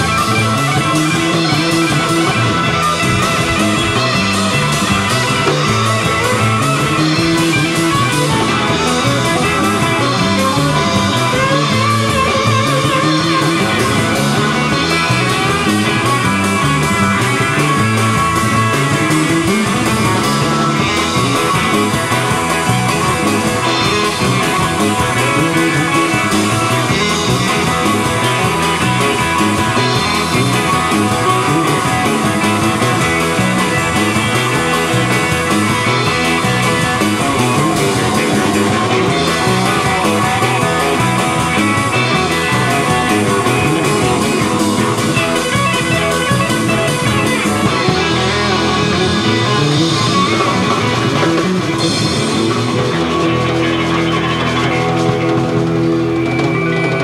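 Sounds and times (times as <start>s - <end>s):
guitar-led rock music: 0.0s - 57.0s.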